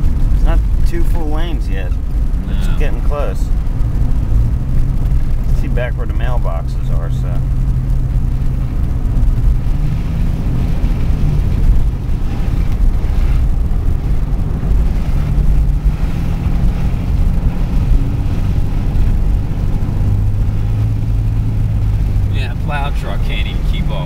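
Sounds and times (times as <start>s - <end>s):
car engine hum: 0.0s - 24.0s
road noise inside car: 0.0s - 24.0s.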